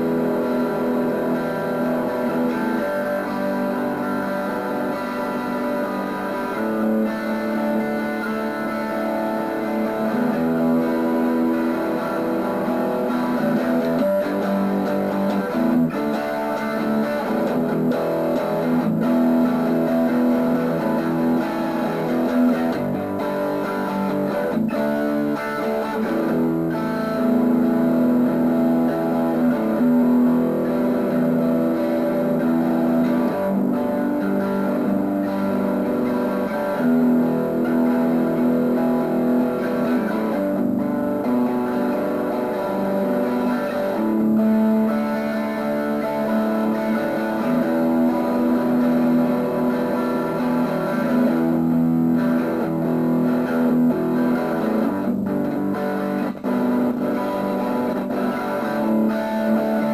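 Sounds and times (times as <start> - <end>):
electric guitar chords and notes: 0.0 - 59.9.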